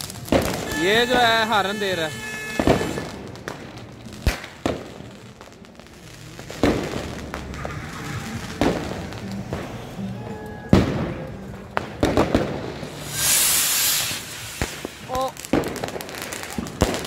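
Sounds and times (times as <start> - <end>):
firecracker bangs: 0.0 - 5.6, 6.3 - 17.0
firework fountain hissing: 0.0 - 17.0.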